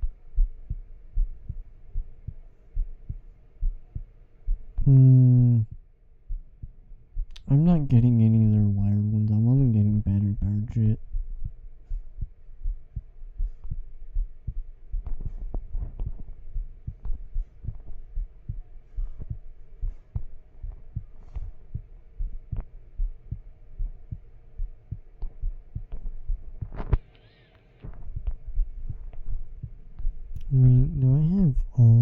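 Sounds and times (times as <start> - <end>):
soft low thumps and taps: 0.0 - 27.0, 27.8 - 32.0
faint hum: 0.0 - 32.0.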